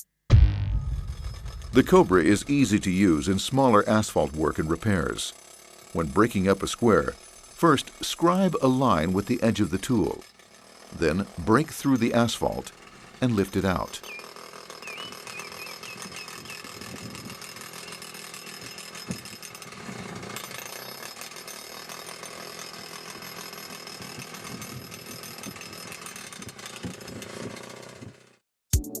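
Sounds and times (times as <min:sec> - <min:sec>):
petrol breaker hammering asphalt: 0:00.8 - 0:28.4.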